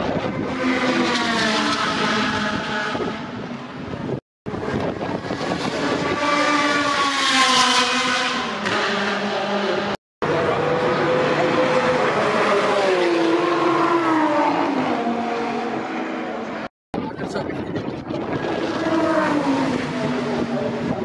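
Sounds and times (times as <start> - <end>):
race car engines passing: 0.0 - 16.7, 17.5 - 21.0.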